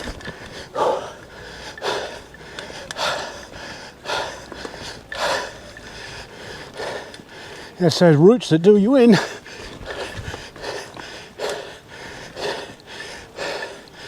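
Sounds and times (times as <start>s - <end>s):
person breathing hard: 0.0s - 7.8s, 9.1s - 14.0s.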